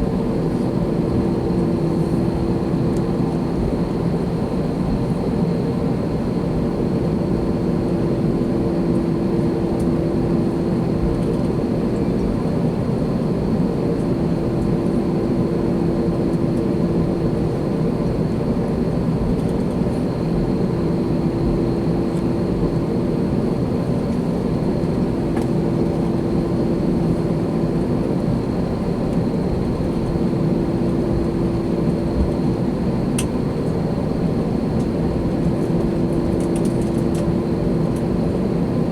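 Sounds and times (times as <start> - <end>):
airplane cabin hum: 0.0 - 38.9.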